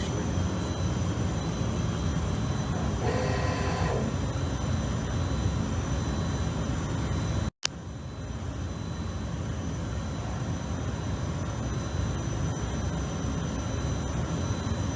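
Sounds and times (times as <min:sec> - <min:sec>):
industrial machinery hum and rumble: 0:00.0 - 0:14.9
pitched machine whine: 0:00.0 - 0:14.9.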